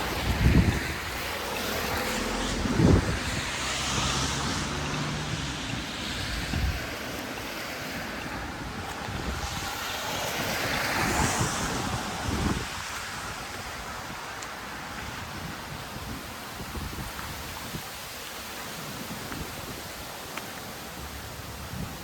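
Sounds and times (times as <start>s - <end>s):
wind buffeting microphone: 0.0s - 18.2s, 21.4s - 22.0s
outdoor street ambience hiss: 0.0s - 22.0s.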